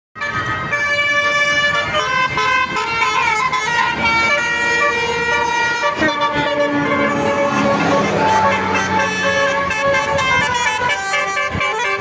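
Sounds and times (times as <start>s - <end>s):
multi-tone musical horns: 0.2s - 12.0s.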